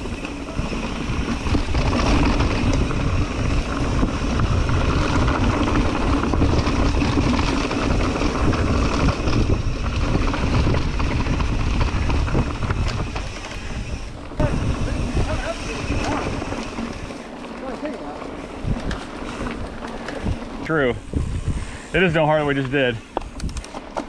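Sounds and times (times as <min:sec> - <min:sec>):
wind on microphone: 0:00.0 - 0:17.3, 0:18.5 - 0:22.1
bike clicks and rattles: 0:00.0 - 0:24.0
bike tyre noise on dirt: 0:00.0 - 0:24.0.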